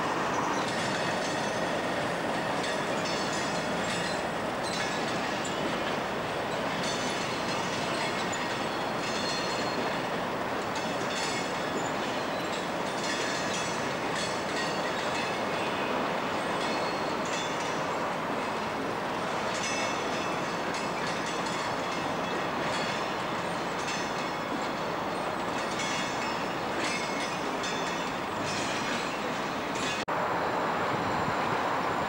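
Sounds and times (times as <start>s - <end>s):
freight train rumble: 0.0s - 32.0s.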